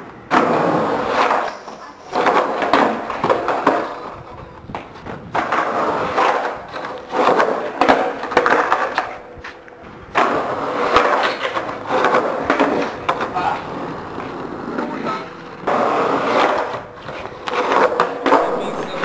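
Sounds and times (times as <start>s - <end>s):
skateboard rolling and scraping: 0.0s - 19.0s.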